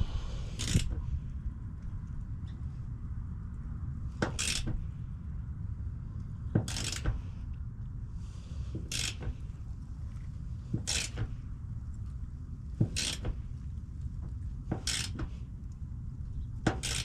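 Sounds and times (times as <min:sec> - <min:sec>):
steady low rumble: 0:00.0 - 0:16.7.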